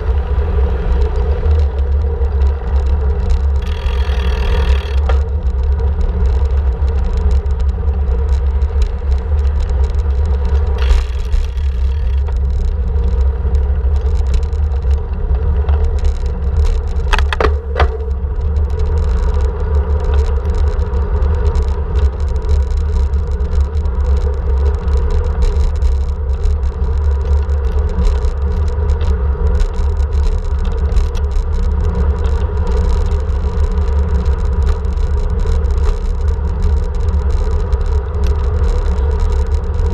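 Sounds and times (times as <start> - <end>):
road and wind noise: 0.0 - 39.9
sharp clatters: 1.0 - 39.9.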